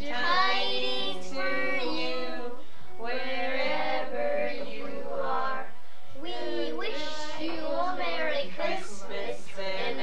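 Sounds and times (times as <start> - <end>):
children singing a carol: 0.0 - 10.0.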